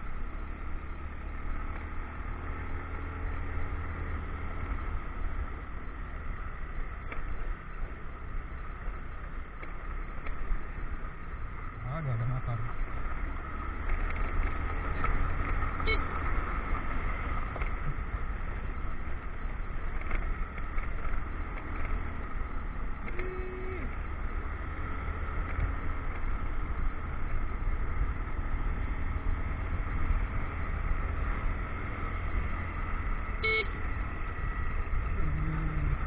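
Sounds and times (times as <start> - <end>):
motorcycle engine running: 0.0 - 36.0
road noise: 0.0 - 36.0.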